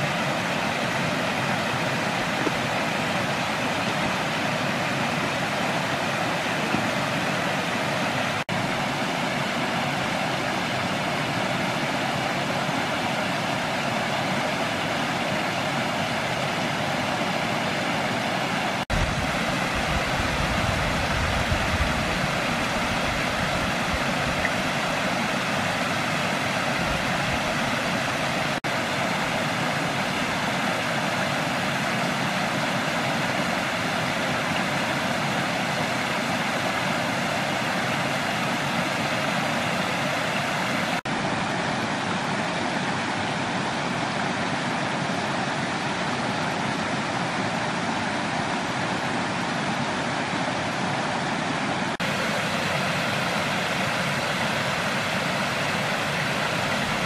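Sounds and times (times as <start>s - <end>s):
waterfall pouring over rocks: 0.0s - 57.0s.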